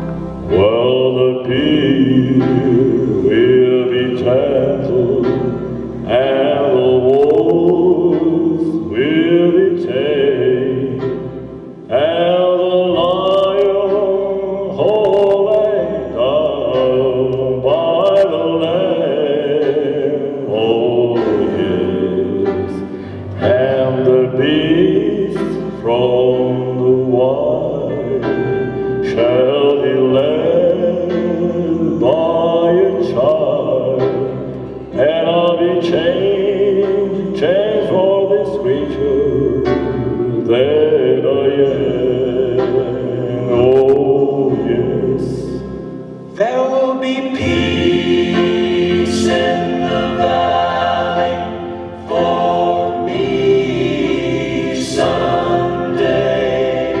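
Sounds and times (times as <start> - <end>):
man singing gospel song: 0.4 - 11.3, 11.9 - 45.7, 46.3 - 57.0.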